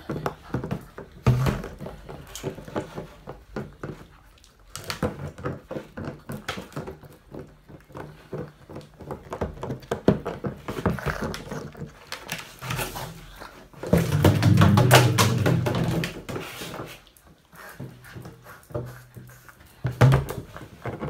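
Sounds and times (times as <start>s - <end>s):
plastic jug knocking and scraping on tile: 0.0s - 21.0s.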